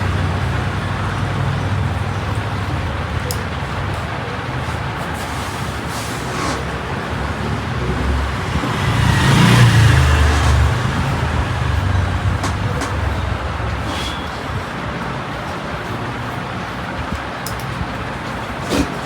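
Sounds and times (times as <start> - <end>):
road traffic rumble: 0.0 - 19.0
vehicle passing: 0.0 - 19.0.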